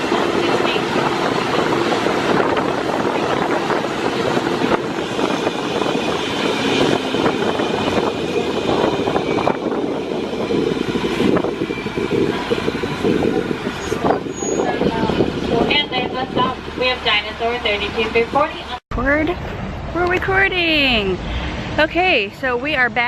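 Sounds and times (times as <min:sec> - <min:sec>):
tram running noise: 0:00.0 - 0:23.0.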